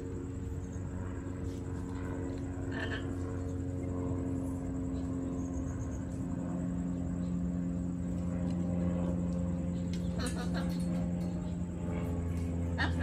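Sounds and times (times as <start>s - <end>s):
motor humming: 1.8s - 13.0s.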